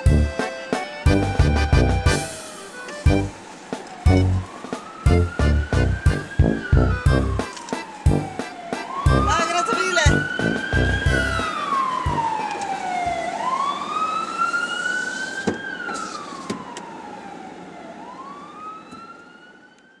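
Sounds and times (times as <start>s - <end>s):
emergency vehicle siren wailing: 0.0s - 20.0s
street traffic noise: 0.0s - 20.0s.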